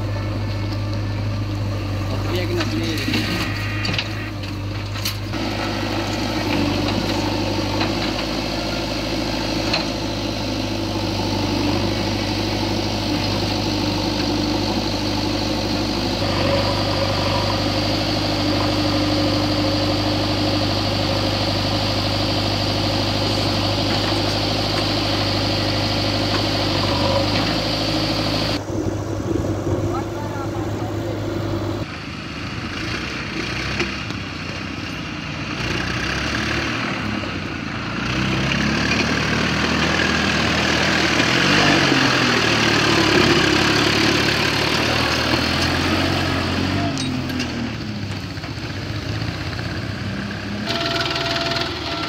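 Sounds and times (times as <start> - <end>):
diesel engines idling: 0.0 - 52.0.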